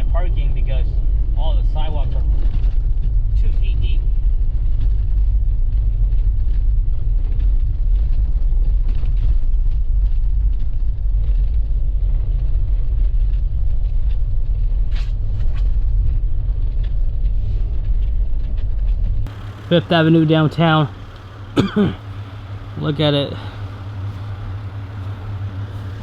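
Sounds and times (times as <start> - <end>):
car driving on snowy road: 0.0 - 26.0.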